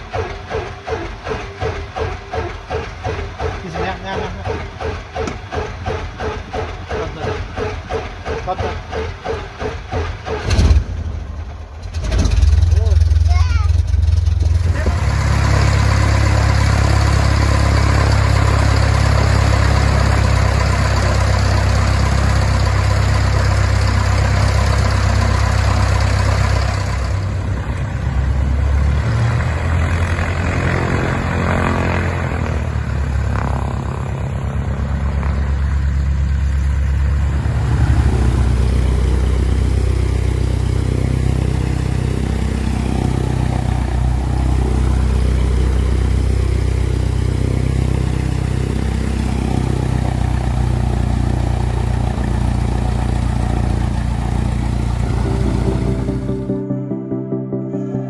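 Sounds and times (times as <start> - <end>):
aircraft piston engine running: 0.0 - 10.8, 12.5 - 28.4, 29.8 - 56.5.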